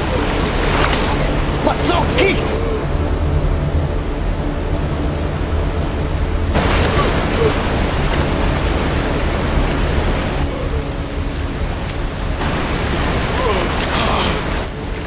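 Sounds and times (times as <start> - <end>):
river rapids rushing: 0.0 - 3.1, 5.7 - 15.0.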